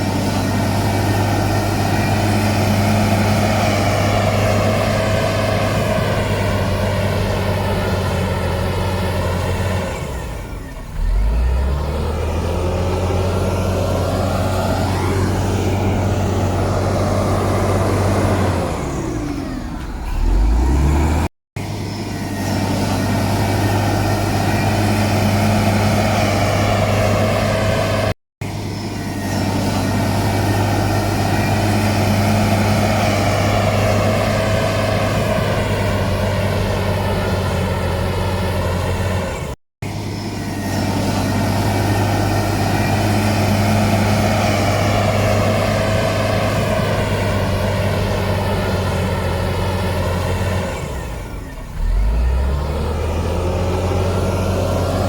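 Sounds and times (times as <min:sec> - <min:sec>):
heavy diesel machinery engine: 0:00.0 - 0:55.0.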